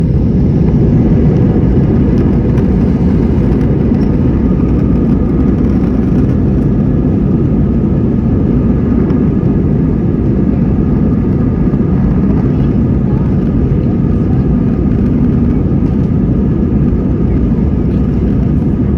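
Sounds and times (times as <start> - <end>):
airplane taking off rumble: 0.0 - 18.9
faint engine tones: 0.0 - 18.9.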